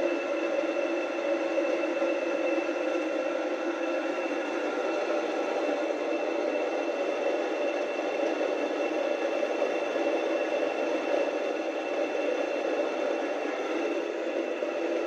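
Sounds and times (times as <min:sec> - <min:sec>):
electric flour mill whirring: 0:00.0 - 0:15.0.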